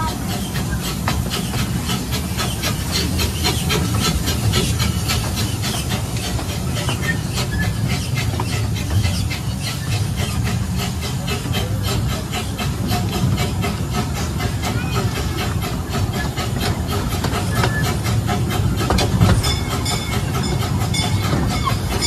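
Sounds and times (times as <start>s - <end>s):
miniature train rhythmic hissing: 0.0s - 22.0s
train rumble: 0.0s - 22.0s.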